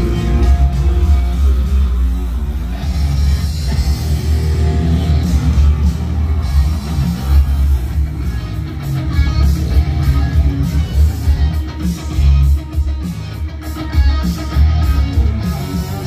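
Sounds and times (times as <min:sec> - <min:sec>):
guitar-led rock music: 0:00.0 - 0:16.0
heavy bass: 0:00.0 - 0:16.0.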